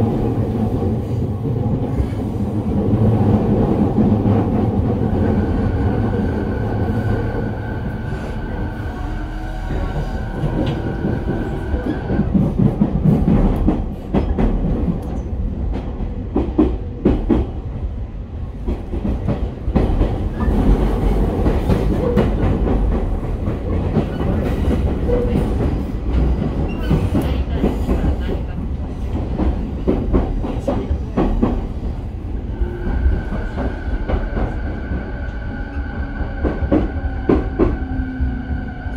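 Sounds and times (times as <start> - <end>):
train running rumble: 0.0 - 38.9.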